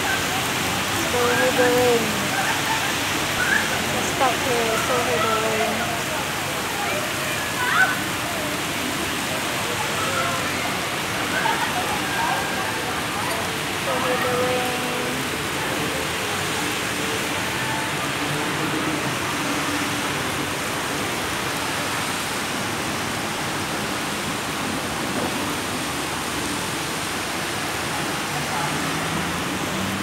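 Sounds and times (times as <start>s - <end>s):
heavy rain on pavement: 0.0s - 30.0s.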